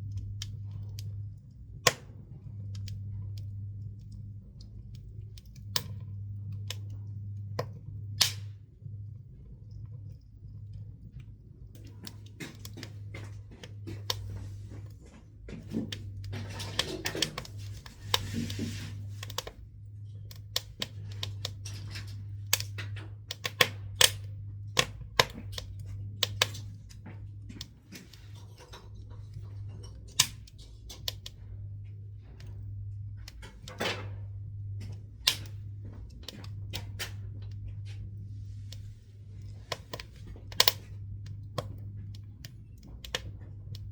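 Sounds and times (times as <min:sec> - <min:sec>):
steady low hum: 0:00.0 - 0:43.9
wood crackling in a stove: 0:00.0 - 0:43.9.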